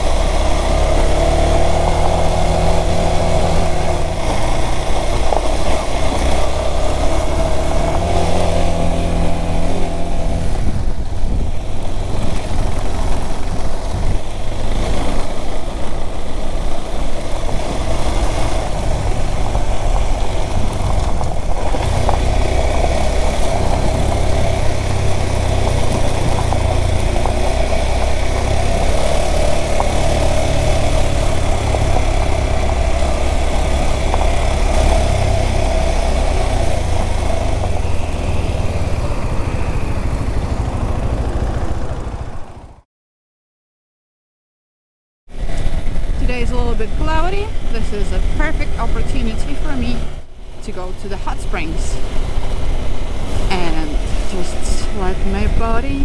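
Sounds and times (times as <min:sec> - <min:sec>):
motorcycle engine running: 0:00.0 - 0:42.8, 0:45.3 - 0:56.0
tyres on gravel road: 0:00.0 - 0:42.8, 0:45.3 - 0:56.0.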